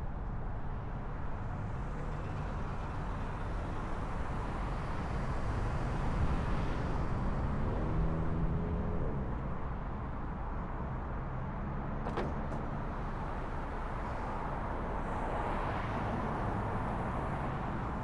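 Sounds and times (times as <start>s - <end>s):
car road and tyre noise: 0.0s - 18.0s.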